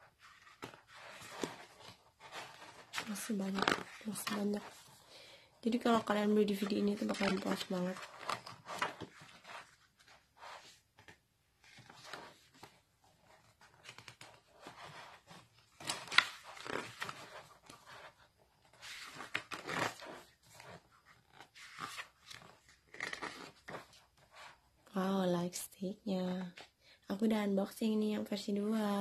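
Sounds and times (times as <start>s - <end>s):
pages turning and rustling: 0.1s - 5.0s, 5.8s - 24.6s.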